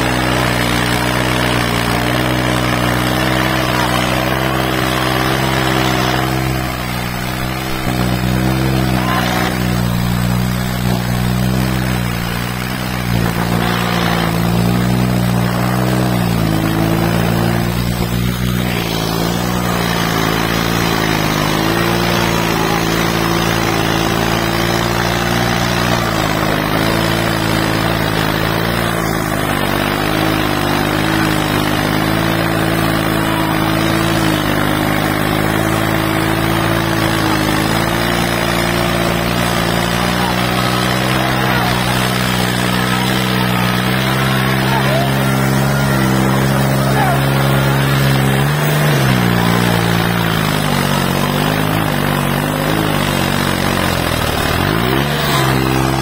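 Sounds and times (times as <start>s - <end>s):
tractor diesel engine labouring: 0.0s - 56.0s.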